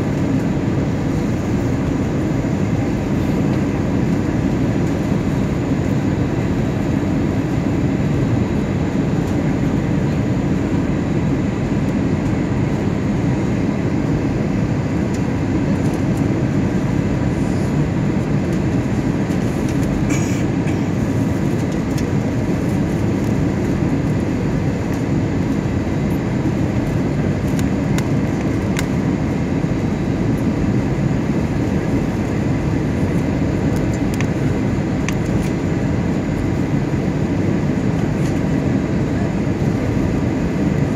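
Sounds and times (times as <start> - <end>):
airliner cabin rumble: 0.0 - 40.9
faint steady whine: 0.0 - 40.9.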